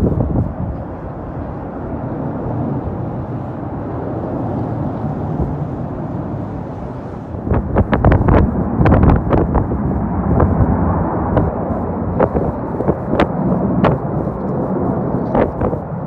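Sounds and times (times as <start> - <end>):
jet airliner engines: 0.0 - 16.0.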